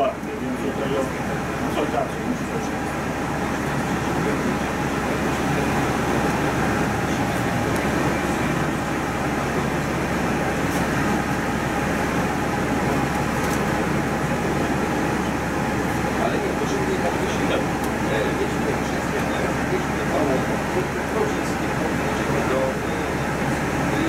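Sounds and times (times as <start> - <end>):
bus engine and tyres running: 0.0 - 24.0.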